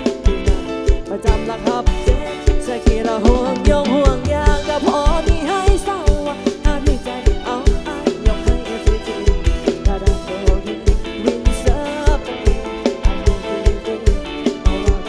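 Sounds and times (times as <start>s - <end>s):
sliding melody line: 0.0s - 15.0s.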